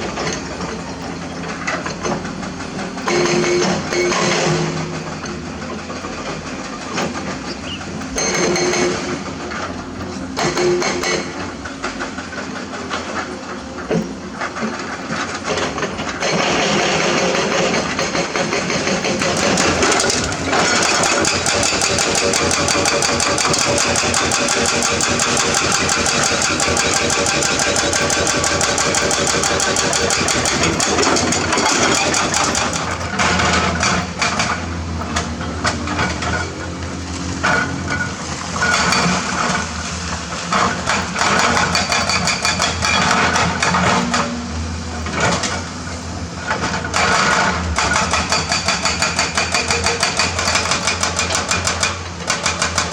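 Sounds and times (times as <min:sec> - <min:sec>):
excavator diesel engine under load: 0:00.0 - 0:52.9.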